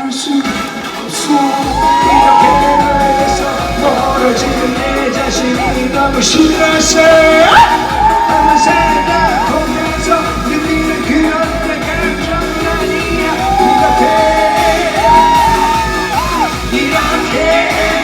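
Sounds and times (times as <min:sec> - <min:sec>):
live pop-rock band music: 0:00.0 - 0:18.0
kick drum beat: 0:01.6 - 0:18.0.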